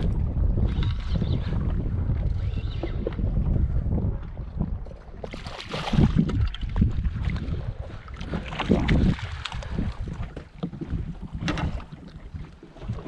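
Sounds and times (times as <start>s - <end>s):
water lapping against boat: 0.0s - 13.0s
wind buffeting microphone: 0.0s - 13.0s.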